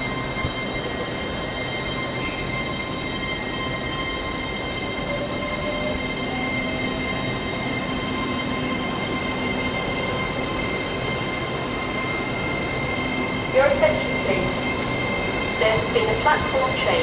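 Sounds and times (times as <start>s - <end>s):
high whining tones: 0.0s - 17.0s
train rumble: 0.0s - 17.0s.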